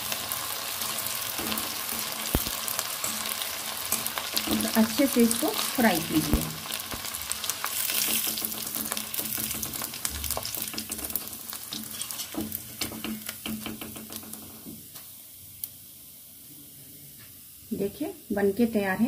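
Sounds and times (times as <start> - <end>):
chips sizzling in hot oil: 0.0 - 16.2.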